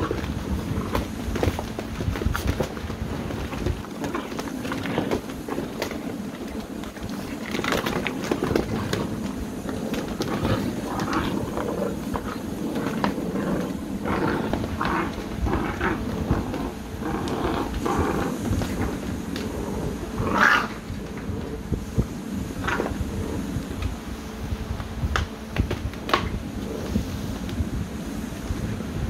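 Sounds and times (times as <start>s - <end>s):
puppies growling and yipping: 0.0s - 23.8s
claws scrabbling on plastic: 0.0s - 24.0s.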